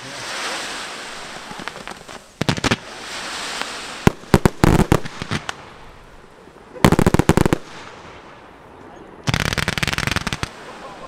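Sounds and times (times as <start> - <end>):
hiss of burning fireworks: 0.0 - 11.0.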